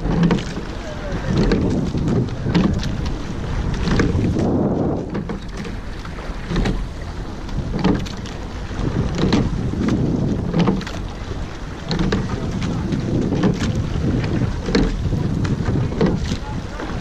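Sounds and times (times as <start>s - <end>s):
oar splashes: 0.0s - 17.0s
oars knocking in oarlocks: 0.0s - 17.0s
wind buffeting microphone: 0.0s - 17.0s.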